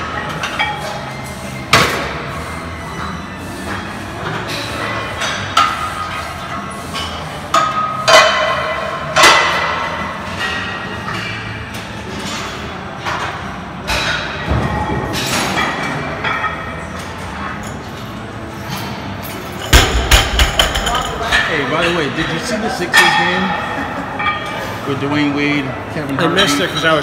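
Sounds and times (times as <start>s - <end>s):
gym background noise: 0.0s - 27.0s.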